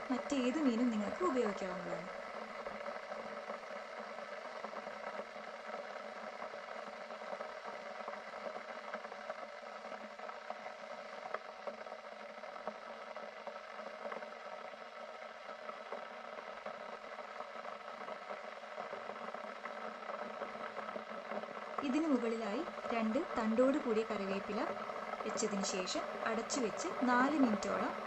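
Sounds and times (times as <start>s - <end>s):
gravy bubbling and popping: 0.0s - 28.0s.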